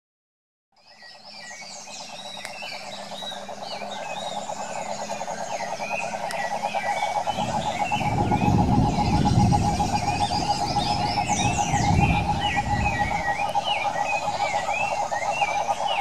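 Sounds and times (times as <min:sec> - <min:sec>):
birds chirping: 0:00.8 - 0:16.0
toad trilling: 0:01.8 - 0:16.0
low rumbling noise: 0:02.9 - 0:16.0.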